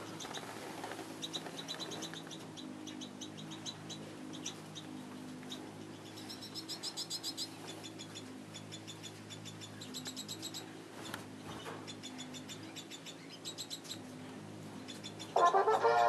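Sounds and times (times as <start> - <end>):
small birds chirping: 0.0 - 15.4
steady low hum: 0.0 - 16.0.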